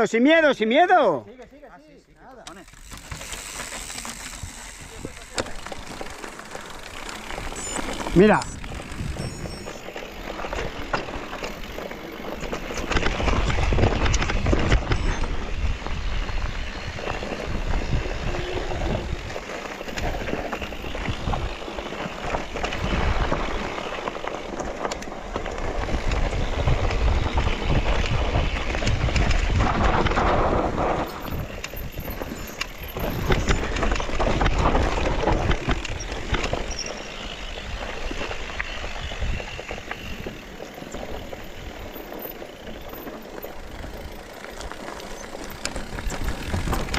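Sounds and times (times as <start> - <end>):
bike tyres crunching over stones: 1.3 - 46.9
wind rumbling on microphone: 2.7 - 46.9.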